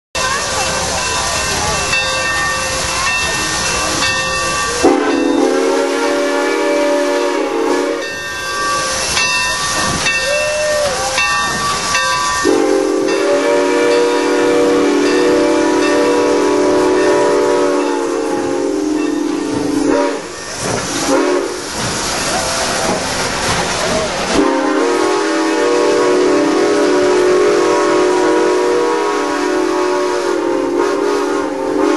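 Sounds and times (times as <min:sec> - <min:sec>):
steam locomotive chime whistle: 0:00.2 - 0:21.8, 0:24.4 - 0:31.9
steam hissing: 0:00.2 - 0:31.9.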